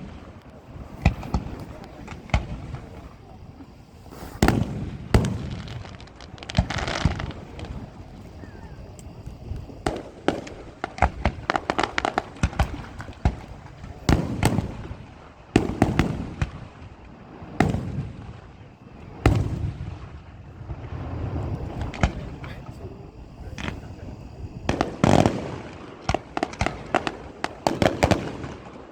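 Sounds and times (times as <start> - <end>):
crackling firework pops: 0.0 - 28.9
firework shells booming: 0.0 - 28.9.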